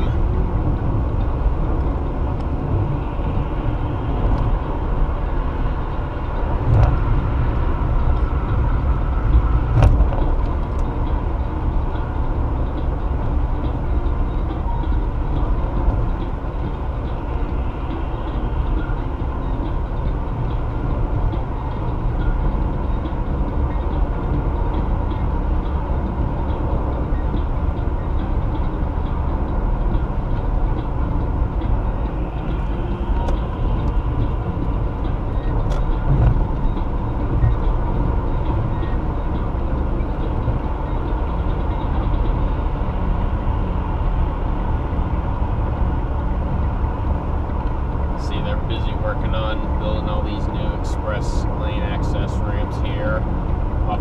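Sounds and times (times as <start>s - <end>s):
car driving at highway speed: 0.0s - 54.0s.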